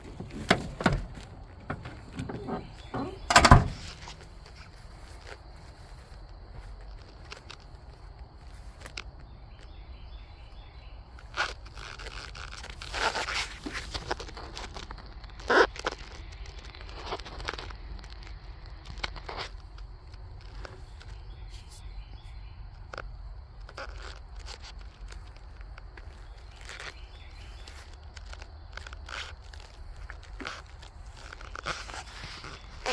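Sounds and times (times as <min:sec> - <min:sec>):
scrapes and crunches: 0:00.0 - 0:32.9.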